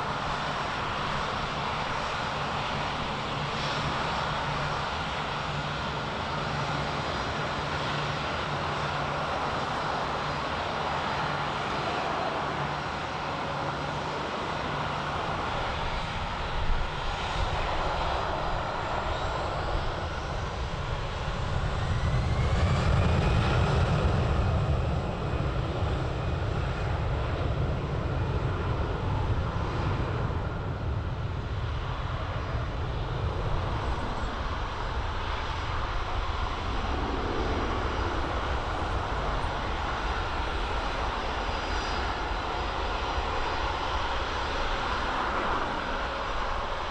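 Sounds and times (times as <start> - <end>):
propeller aircraft engines droning: 0.0 - 46.9.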